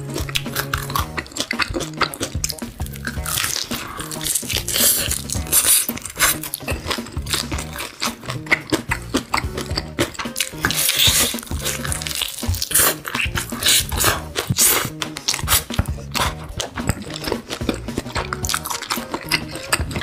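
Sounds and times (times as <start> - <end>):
background music: 0.0 - 20.0
crunching fried chicken: 0.0 - 20.0.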